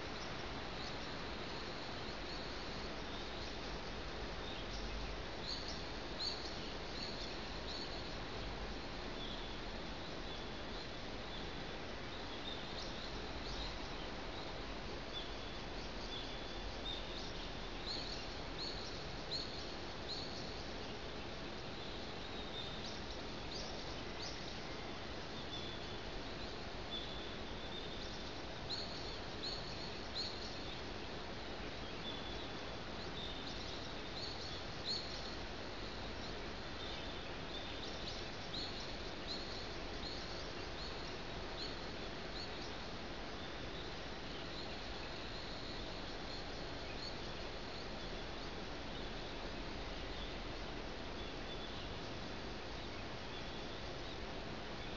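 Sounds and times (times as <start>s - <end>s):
small birds chirping: 0.0s - 54.9s
steady background hiss: 0.0s - 54.9s.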